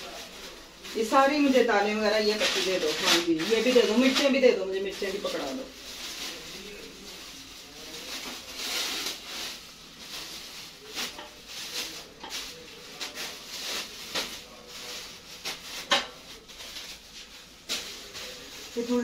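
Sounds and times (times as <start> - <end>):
plastic bags rustling: 0.0 - 19.0.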